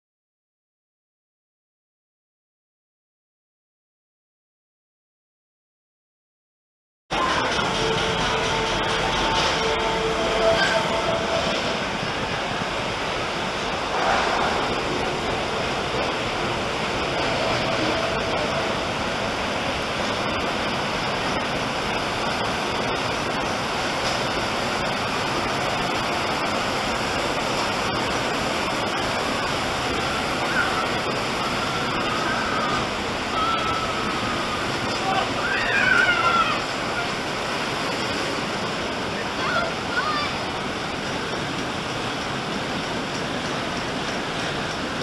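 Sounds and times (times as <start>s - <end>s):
conveyor lift running: 7.1s - 45.0s
running water: 7.1s - 45.0s.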